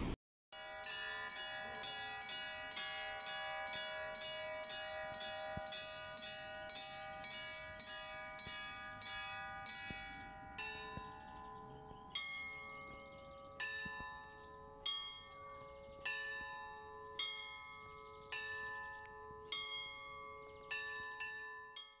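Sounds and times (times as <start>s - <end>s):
church bells ringing: 0.6s - 22.0s.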